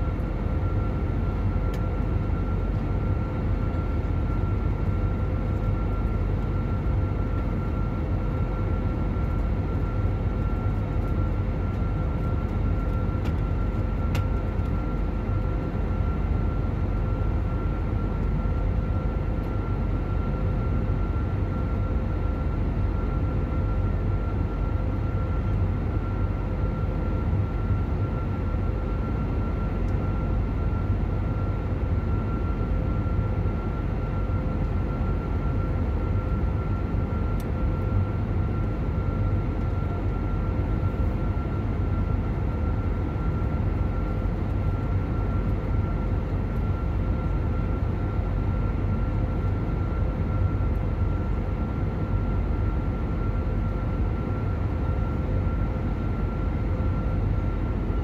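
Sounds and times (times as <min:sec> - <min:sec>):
faint steady whine: 0:00.0 - 0:58.0
jet engine rumble in cabin: 0:00.0 - 0:58.0.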